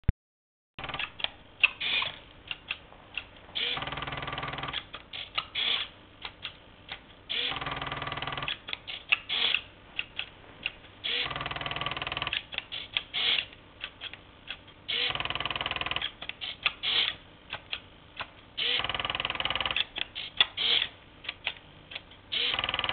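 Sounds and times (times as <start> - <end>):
machine clicks and ticks: 0.8 - 22.9.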